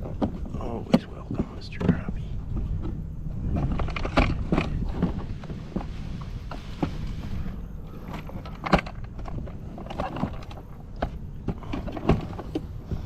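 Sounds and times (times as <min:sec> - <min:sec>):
fish bumping against hull: 0:00.0 - 0:13.0
low steady rumble: 0:00.0 - 0:13.0.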